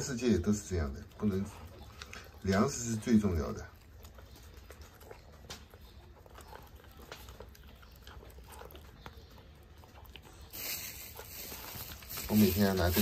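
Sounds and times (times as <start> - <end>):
puppy chewing and crunching: 0.0 - 13.0.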